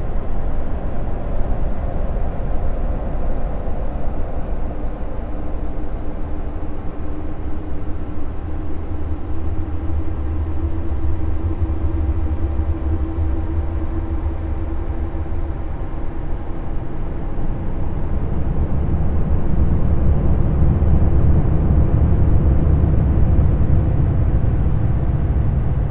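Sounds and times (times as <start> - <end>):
deep low rumble drone: 0.0 - 25.9
faint steady hum: 0.0 - 25.9.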